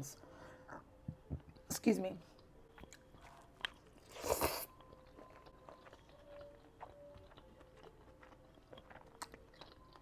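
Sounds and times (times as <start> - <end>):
faint chewing with mouth clicks: 1.1 - 10.0.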